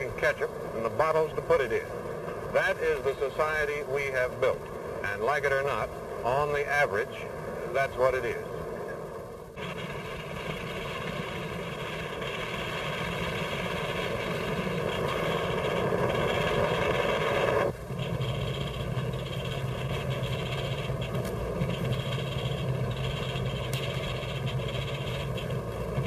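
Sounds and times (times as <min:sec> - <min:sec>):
computer machinery whirring: 0:00.0 - 0:26.0
low droning hum: 0:00.0 - 0:26.0.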